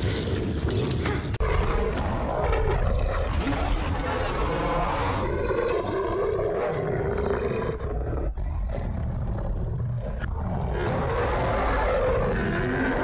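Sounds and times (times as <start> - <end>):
monster roar and growl: 0.0 - 13.0.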